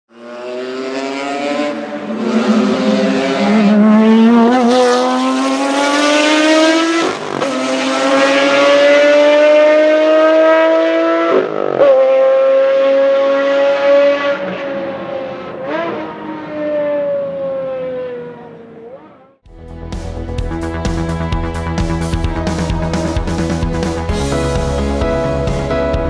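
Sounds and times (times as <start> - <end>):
engine accelerating hard: 0.1 - 18.7, 20.1 - 26.0.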